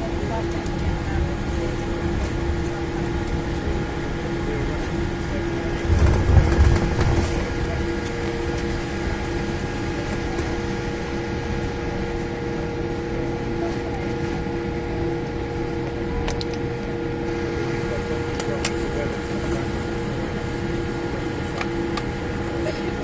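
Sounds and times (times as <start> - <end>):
airplane cabin hum: 0.0 - 23.0.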